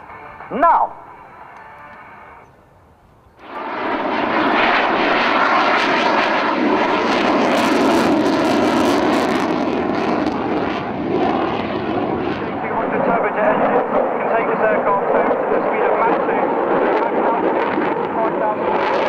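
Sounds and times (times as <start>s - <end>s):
loud aircraft engine: 0.0s - 19.0s.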